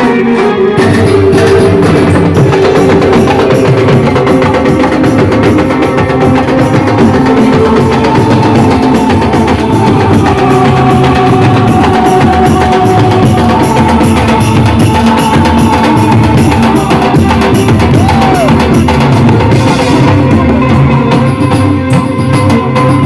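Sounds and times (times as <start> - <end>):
loud music with heavy drums: 0.0 - 23.0.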